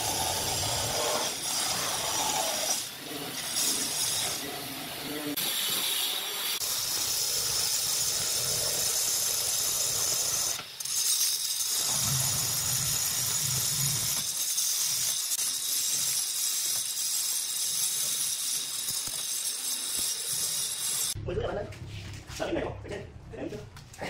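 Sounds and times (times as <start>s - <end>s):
stone cutter grinding: 0.0s - 21.2s.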